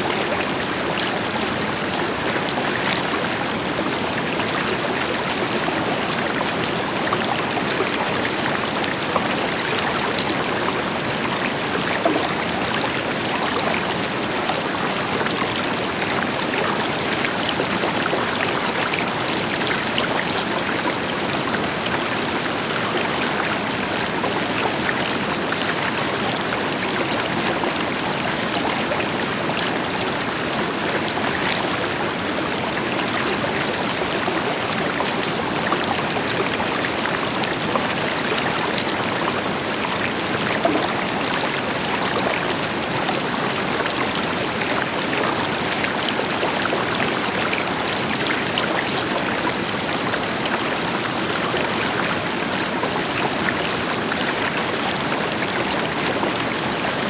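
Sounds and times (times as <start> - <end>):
river flowing over stones: 0.0 - 57.0.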